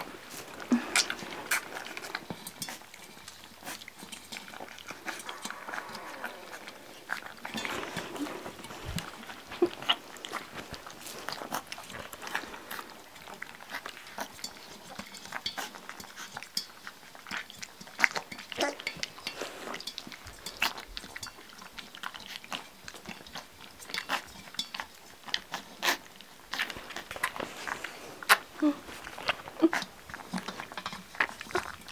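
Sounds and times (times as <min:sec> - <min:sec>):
puppies lapping and slurping: 0:00.0 - 0:31.9.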